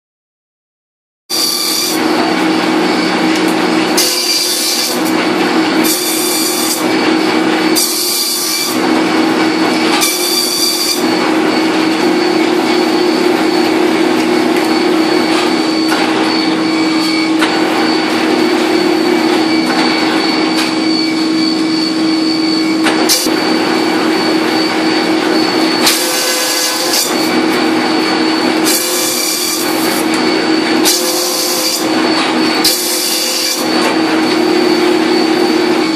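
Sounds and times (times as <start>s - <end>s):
steady motor hum: 1.4s - 35.9s.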